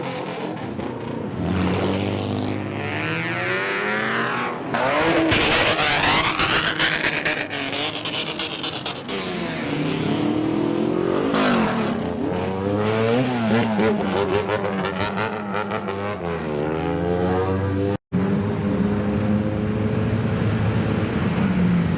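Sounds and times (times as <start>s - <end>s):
car engine revving: 1.4s - 21.9s.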